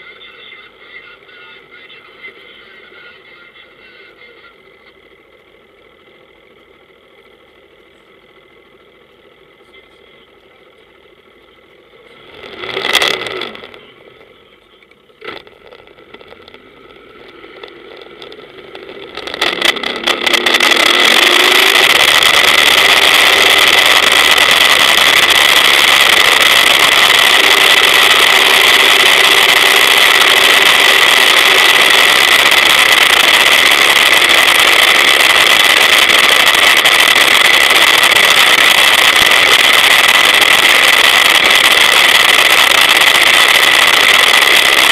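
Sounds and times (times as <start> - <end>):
powerboat engine: 0.0 - 44.9.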